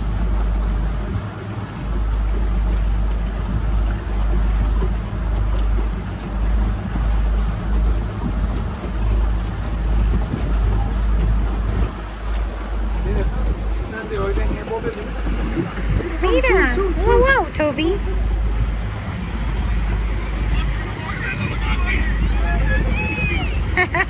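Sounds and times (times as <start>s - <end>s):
boat rushing through water: 0.0s - 24.0s
wind buffeting microphone: 0.0s - 24.0s.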